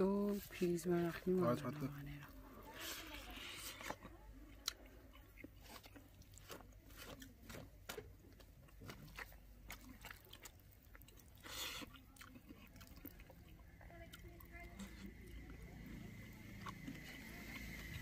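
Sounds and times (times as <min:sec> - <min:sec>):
chewing and mouth clicks: 0:01.5 - 0:18.0.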